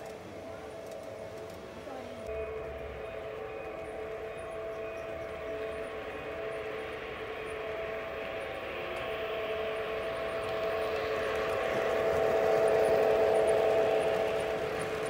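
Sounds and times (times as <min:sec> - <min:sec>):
model train motor whine: 0:00.0 - 0:15.0
wheels rolling on rail: 0:00.0 - 0:15.0.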